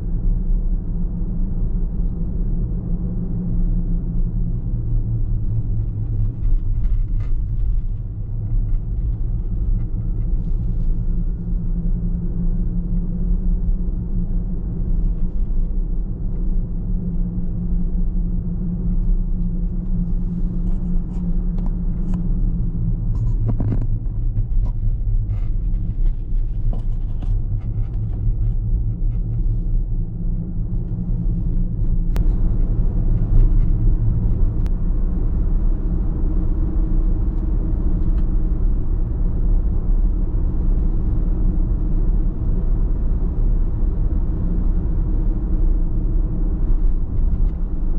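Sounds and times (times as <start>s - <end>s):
car engine hum: 0.0s - 47.9s.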